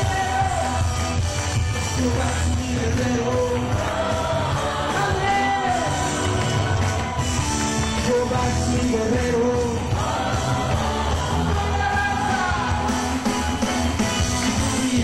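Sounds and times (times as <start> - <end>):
band playing worship music: 0.0 - 15.0
congregation singing: 2.0 - 15.0.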